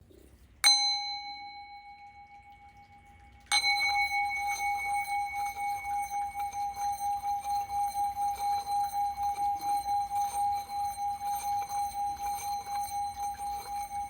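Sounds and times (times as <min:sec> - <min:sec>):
singing bowl ringing: 0:00.7 - 0:14.0.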